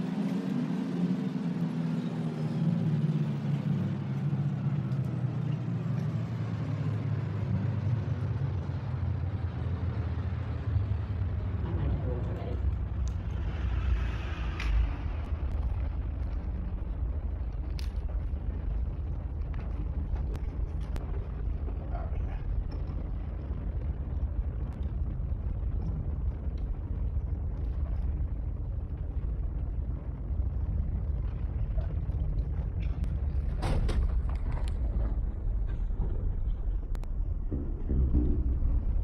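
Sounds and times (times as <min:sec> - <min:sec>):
fire rumbling: 0:00.0 - 0:39.0
fire crackling: 0:03.0 - 0:39.0.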